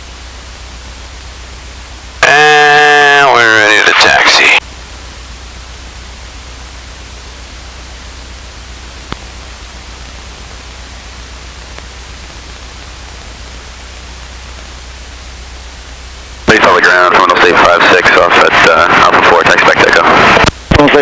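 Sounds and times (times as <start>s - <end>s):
low hum: 0.0s - 21.0s
radio static hiss: 0.0s - 21.0s.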